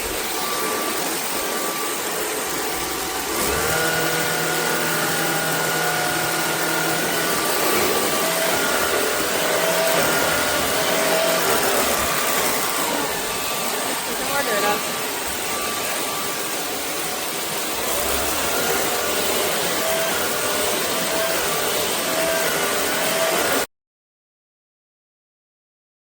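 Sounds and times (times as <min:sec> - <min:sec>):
vacuum whine shifting pitch: 0:00.0 - 0:23.6.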